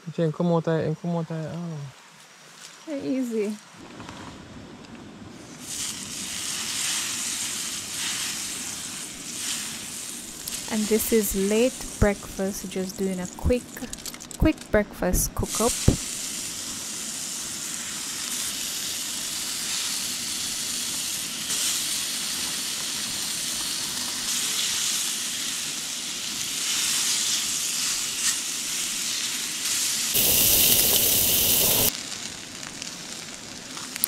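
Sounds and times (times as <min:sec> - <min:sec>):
food sizzling in a pan: 0:05.4 - 0:14.0, 0:15.1 - 0:34.0.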